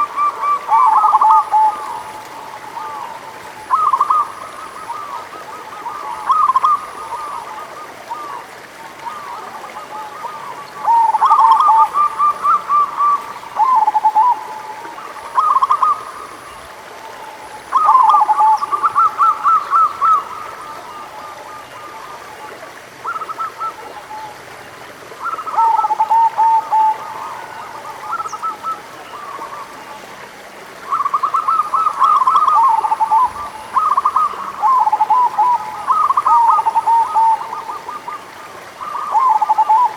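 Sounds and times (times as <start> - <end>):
doves cooing: 0.0 - 30.0, 30.8 - 39.9.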